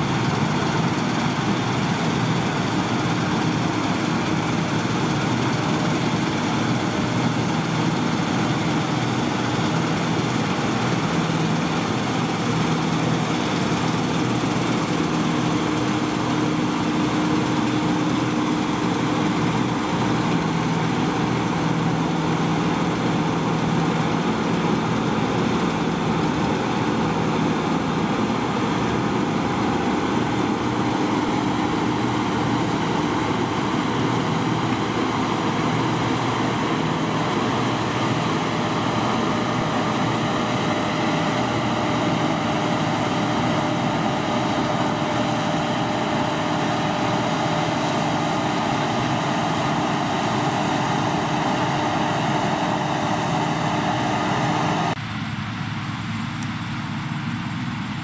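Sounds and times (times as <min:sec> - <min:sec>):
combine harvester humming: 0:00.0 - 0:58.0.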